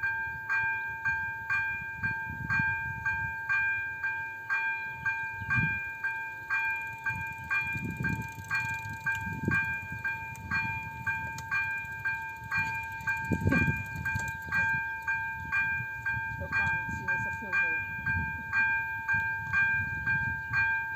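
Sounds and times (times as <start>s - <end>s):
level crossing warning bell: 0.0s - 20.9s.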